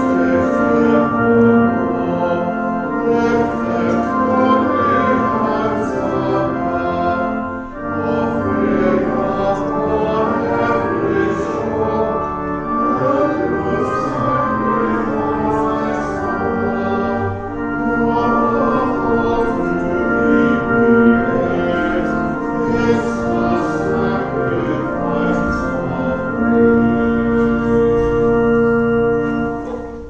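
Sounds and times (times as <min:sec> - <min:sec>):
hymn singing: 0:00.0 - 0:30.0
instrumental accompaniment: 0:00.0 - 0:30.0.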